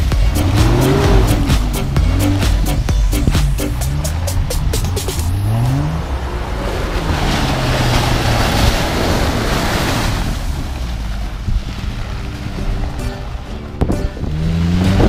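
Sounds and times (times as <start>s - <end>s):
car engine revving: 0.0s - 15.0s
tyres churning through wet mud: 0.0s - 15.0s.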